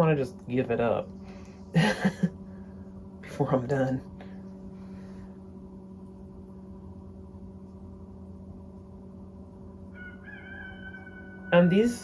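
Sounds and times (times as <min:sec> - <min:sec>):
electric potter's wheel humming: 0:00.0 - 0:12.0.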